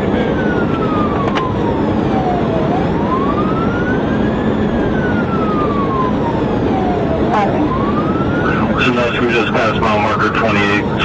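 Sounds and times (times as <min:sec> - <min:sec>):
police siren wailing: 0:00.0 - 0:11.0
road and engine noise: 0:00.0 - 0:11.0.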